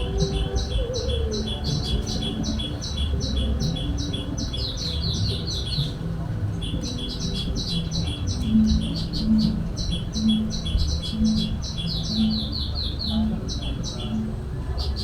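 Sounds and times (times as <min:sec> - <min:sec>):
low rumbling background: 0:00.0 - 0:15.0
small bird chirping: 0:00.0 - 0:15.0.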